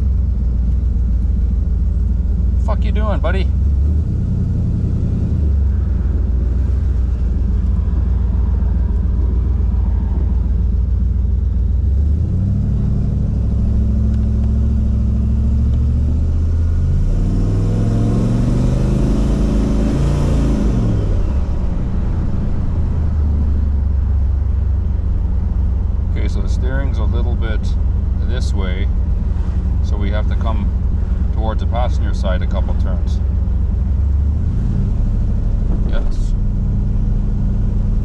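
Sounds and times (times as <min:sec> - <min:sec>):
car engine heard from cabin: 0:00.0 - 0:38.0.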